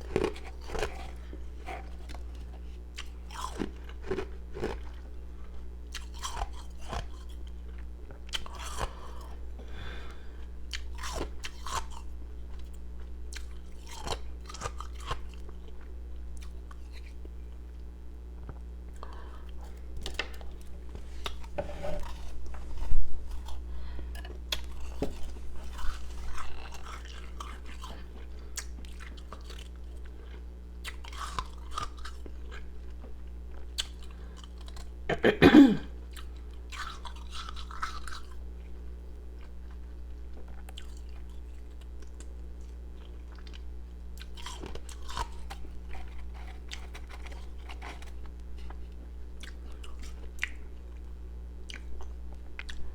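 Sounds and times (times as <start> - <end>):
crunching and chewing ice: 0.0 - 35.1, 36.0 - 52.9.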